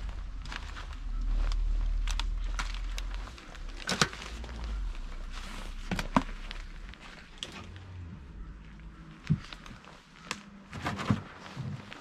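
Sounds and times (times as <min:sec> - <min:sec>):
low steady rumble: 0:00.0 - 0:10.5
footsteps with snaps and crunches: 0:00.0 - 0:12.0.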